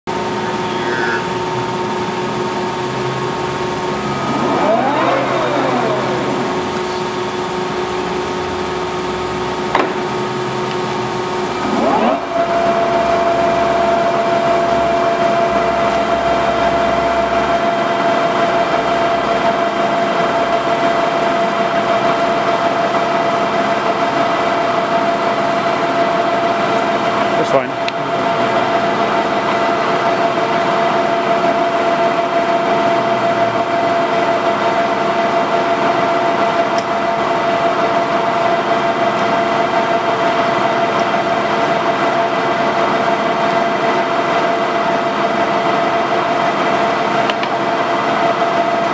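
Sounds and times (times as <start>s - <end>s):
lathe mechanical whine: 0.1s - 48.9s.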